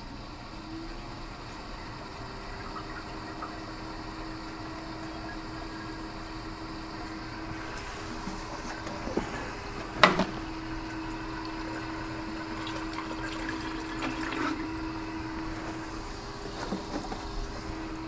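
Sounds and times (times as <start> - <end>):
air gurgling through coolant: 0.0 - 18.0
water-cooling pump humming: 0.0 - 18.0.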